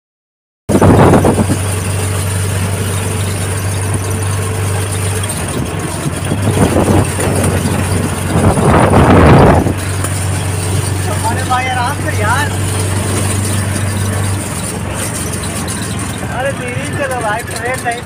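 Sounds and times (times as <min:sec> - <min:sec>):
rough engine rattling: 0:00.7 - 0:18.0
vehicle engine humming: 0:00.7 - 0:18.0.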